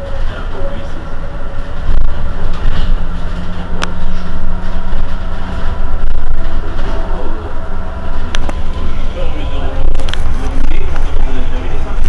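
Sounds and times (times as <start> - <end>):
bus hum: 0.0 - 12.0.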